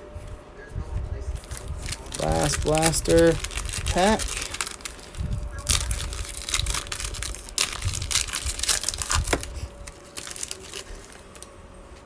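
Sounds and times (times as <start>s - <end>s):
foil wrapper tearing and crinkling: 1.4s - 11.5s.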